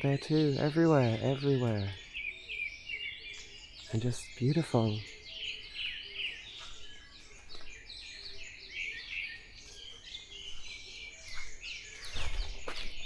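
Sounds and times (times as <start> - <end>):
birds chirping in dawn chorus: 0.0 - 13.0.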